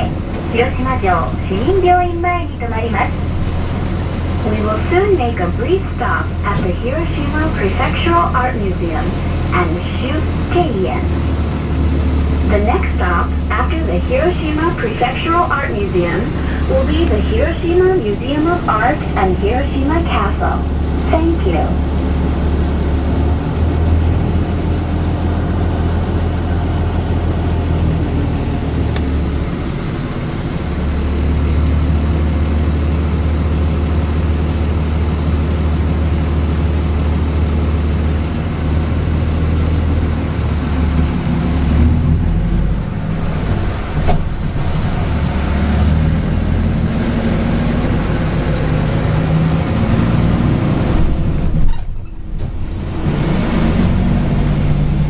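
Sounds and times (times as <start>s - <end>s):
bus engine droning: 0.0s - 55.0s.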